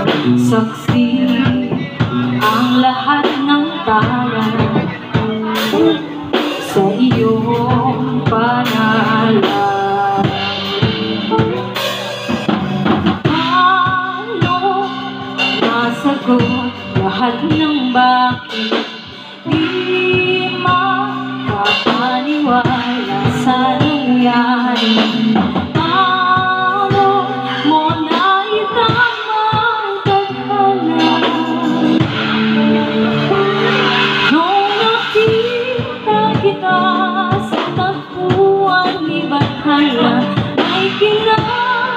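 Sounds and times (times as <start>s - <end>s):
drum kit: 0.0s - 41.9s
guitar: 0.0s - 41.9s
woman singing into a microphone: 0.0s - 41.9s.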